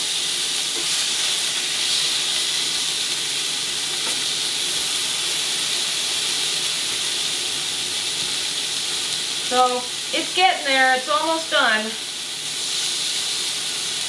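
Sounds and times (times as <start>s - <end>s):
steaks sizzling in frying pan: 0.0s - 14.0s.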